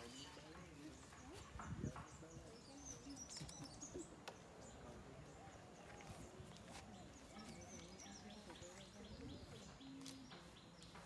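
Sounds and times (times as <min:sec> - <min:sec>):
faint murmured voices: 0:00.0 - 0:11.0
small birds chirping: 0:00.0 - 0:11.0.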